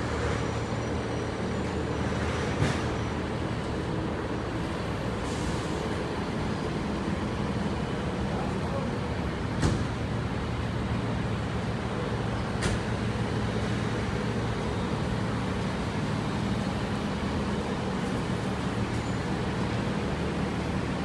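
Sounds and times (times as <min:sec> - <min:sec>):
passing traffic: 0:00.0 - 0:21.0.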